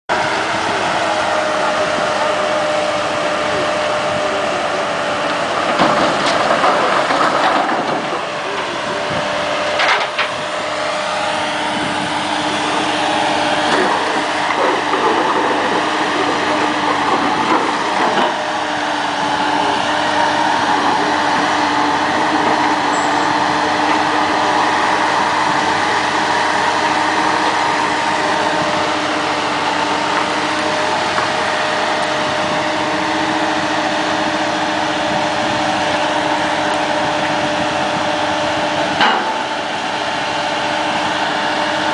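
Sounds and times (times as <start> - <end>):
excavator engine and hydraulics whining: 0.1 - 41.9.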